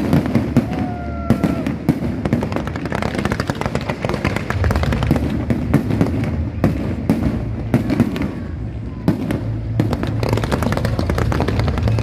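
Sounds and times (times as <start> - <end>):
fireworks crackling and banging: 0.0 - 12.0
low rumble: 0.7 - 12.0.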